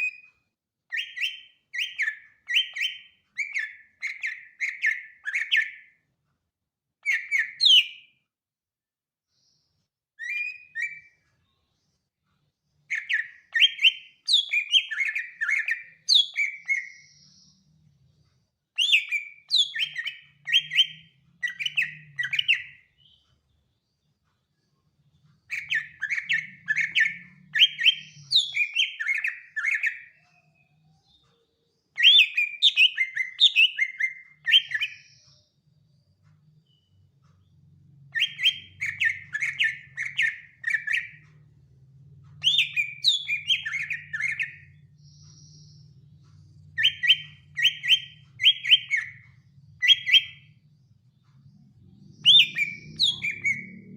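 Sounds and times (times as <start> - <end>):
bird singing whistled notes: 0.9 - 6.0, 7.0 - 8.1, 10.2 - 11.2, 12.9 - 17.8, 18.8 - 23.3, 25.4 - 41.4, 42.4 - 50.8, 51.4 - 53.9.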